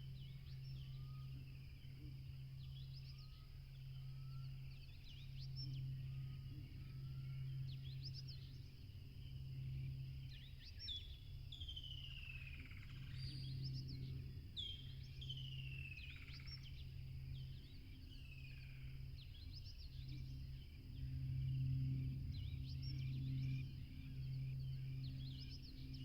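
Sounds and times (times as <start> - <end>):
low background hum: 0.0 - 26.0
songbirds chirping: 0.0 - 26.0.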